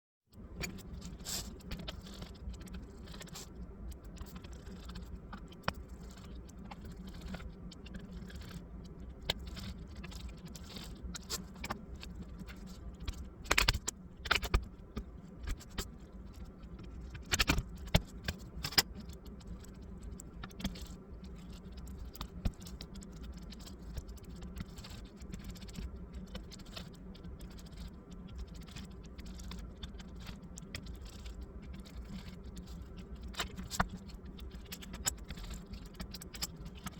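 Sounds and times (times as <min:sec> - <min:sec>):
steady low hum: 0:00.3 - 0:36.9
laptop parts and tools clicking: 0:00.4 - 0:36.9.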